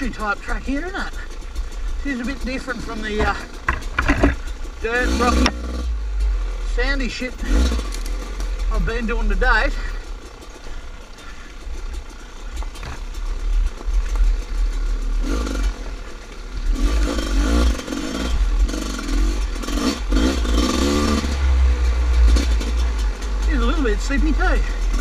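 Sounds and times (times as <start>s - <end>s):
constant low rumble: 0.0s - 25.0s
dirt bike engine revving: 0.0s - 25.0s.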